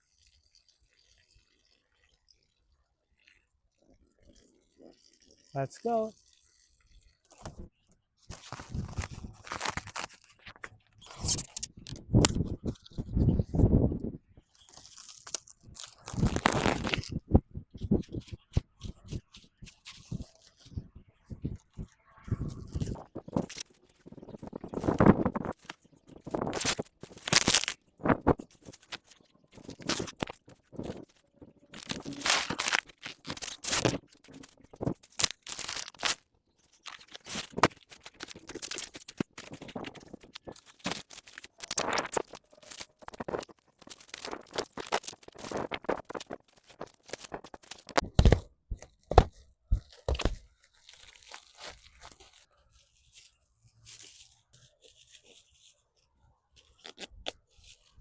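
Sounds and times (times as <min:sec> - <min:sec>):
hands crinkling and tearing material: 0:07.3 - 0:07.7, 0:08.3 - 0:58.0.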